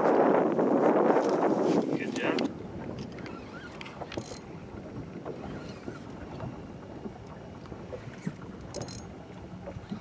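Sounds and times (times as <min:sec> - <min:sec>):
water lapping against boat hull: 0:00.0 - 0:10.0
wind buffeting microphone: 0:00.0 - 0:10.0.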